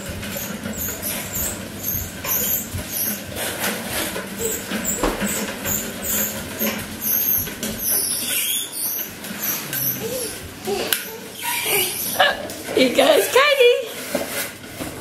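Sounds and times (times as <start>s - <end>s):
plastic wheels rolling on tiles: 0.0s - 15.0s.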